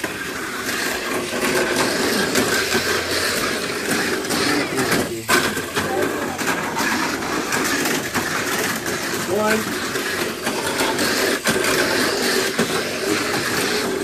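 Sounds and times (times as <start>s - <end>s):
small electric motors whining: 0.0s - 14.0s
toy cars clattering on track: 0.0s - 14.0s.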